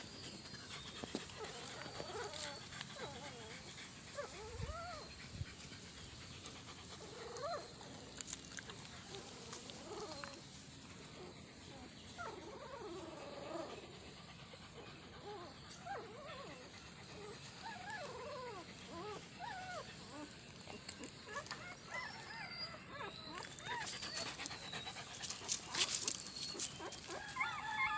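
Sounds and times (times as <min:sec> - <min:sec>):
puppies whimpering and squeaking: 0:00.0 - 0:07.7, 0:11.2 - 0:13.8, 0:14.7 - 0:27.9.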